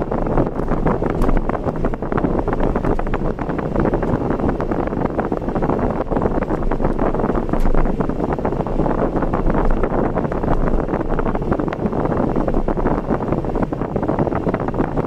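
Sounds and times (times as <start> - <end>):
car wind and road noise: 0.0 - 15.0.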